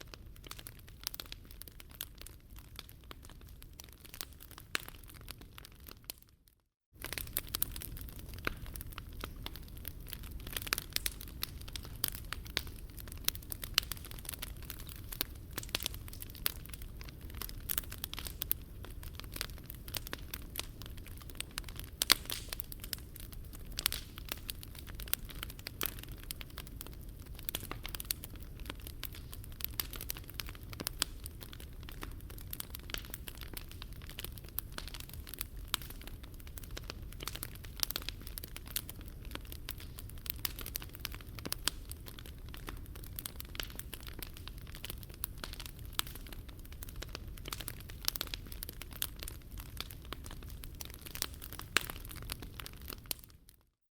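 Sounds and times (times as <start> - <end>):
wood fire crackling: 0.0 - 6.4, 7.0 - 53.6.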